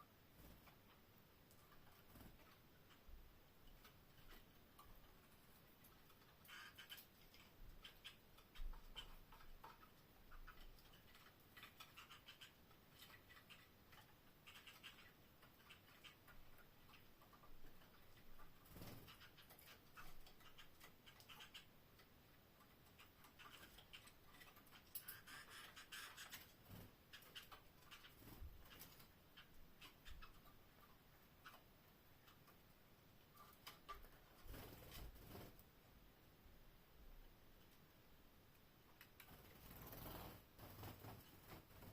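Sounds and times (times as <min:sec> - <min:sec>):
birds clicking and scratching in cage: 0:00.3 - 0:35.7, 0:38.9 - 0:41.9.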